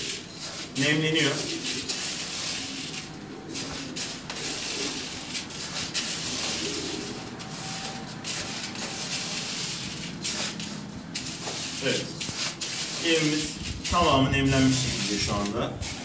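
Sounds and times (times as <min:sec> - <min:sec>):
spoon stirring grain in bucket: 0:00.0 - 0:16.0.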